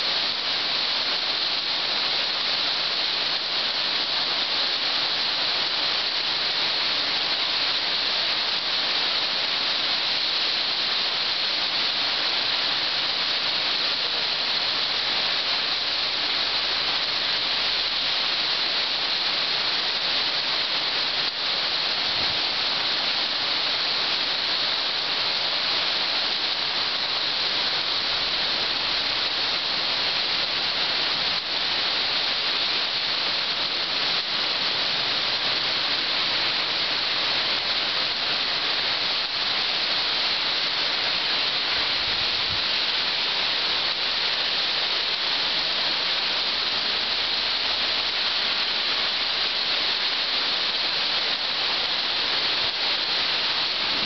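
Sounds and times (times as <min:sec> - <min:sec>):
steady rain downpour: 0:00.0 - 0:54.0.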